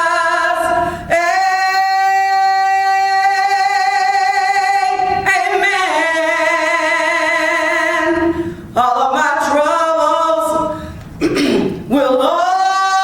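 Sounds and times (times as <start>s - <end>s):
woman singing a cappella: 0.0s - 11.0s, 11.9s - 13.0s.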